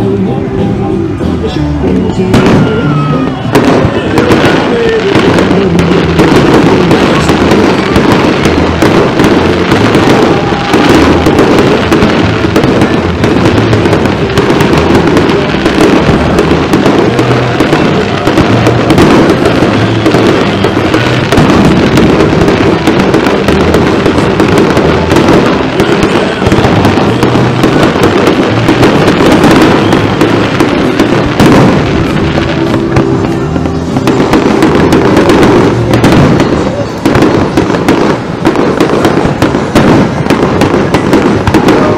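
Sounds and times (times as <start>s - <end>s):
fireworks booming and crackling: 0.0s - 41.9s.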